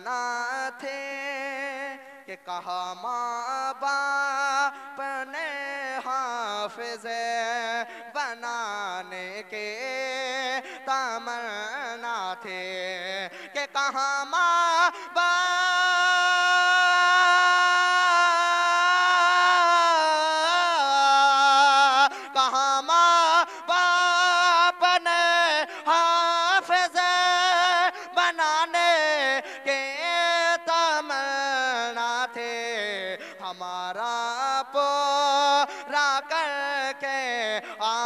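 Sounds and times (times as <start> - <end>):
man singing unaccompanied: 0.0 - 38.0.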